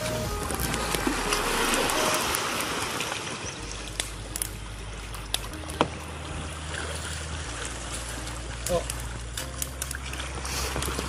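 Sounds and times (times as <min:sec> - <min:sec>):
seawater splashing while wading: 0:00.0 - 0:11.0.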